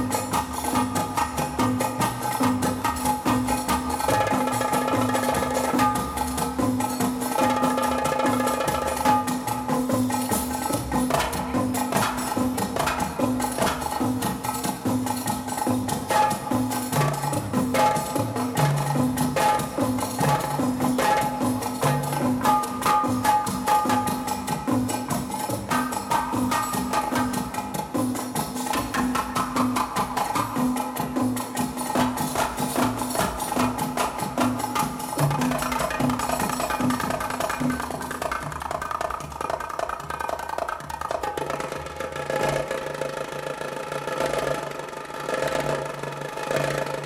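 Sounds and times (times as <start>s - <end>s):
fast hand-drum strokes: 0.0s - 47.0s.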